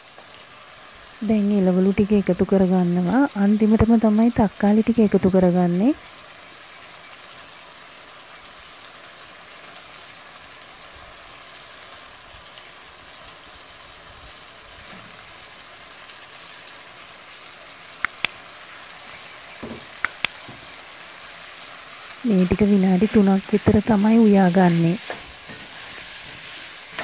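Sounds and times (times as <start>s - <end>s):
chicken sizzling in a pan: 0.0s - 27.0s.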